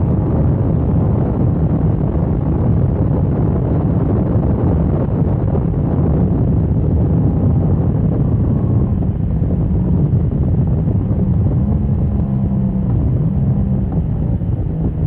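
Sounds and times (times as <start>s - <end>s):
wind rush on microphone: 0.0s - 15.0s.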